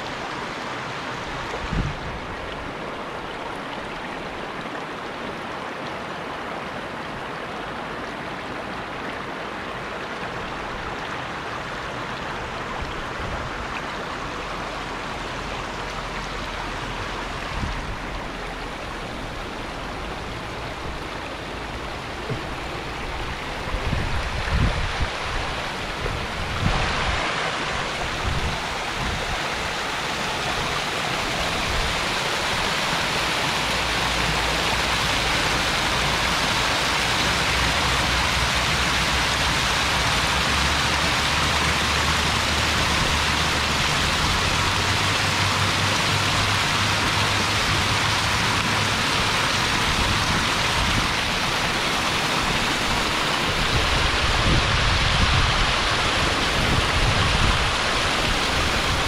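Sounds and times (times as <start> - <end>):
rushing creek water: 0.0 - 59.0.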